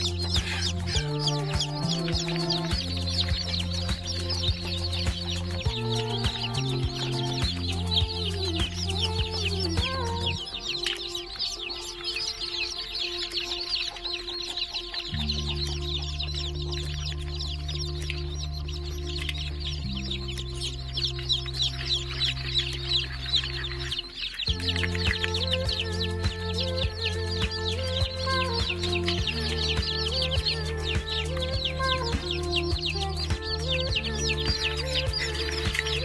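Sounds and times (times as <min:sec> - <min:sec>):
background music with low notes: 0:00.0 - 0:36.0
chicks peeping: 0:00.0 - 0:36.0.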